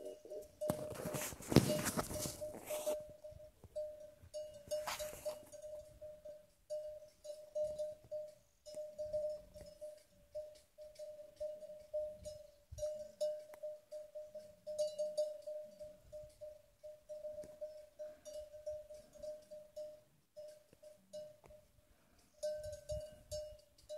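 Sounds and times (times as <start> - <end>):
cowbell clanking: 0.0 - 23.9.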